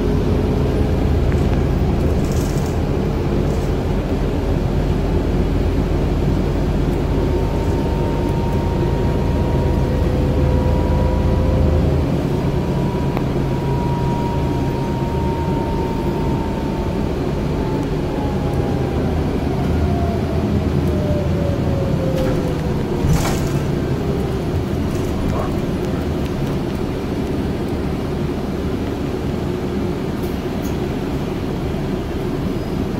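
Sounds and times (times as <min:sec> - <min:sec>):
bus engine and road rumble: 0:00.0 - 0:32.9.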